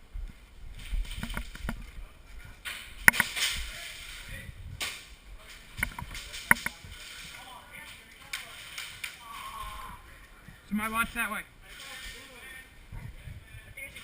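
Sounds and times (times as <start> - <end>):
footsteps: 0.2 - 14.0.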